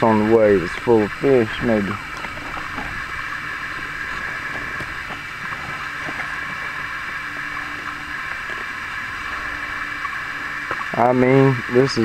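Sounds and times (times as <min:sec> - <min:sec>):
electric trolling motor running: 0:00.0 - 0:12.0.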